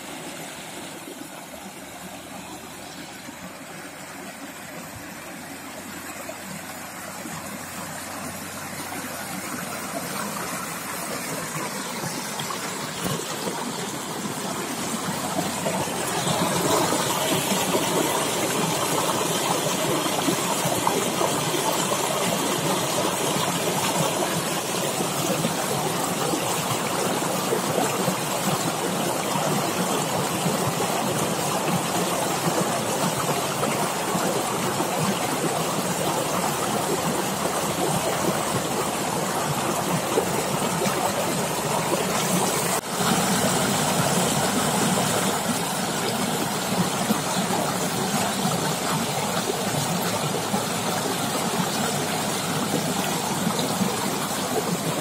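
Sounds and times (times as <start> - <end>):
waterfall roaring: 6.2 - 55.0.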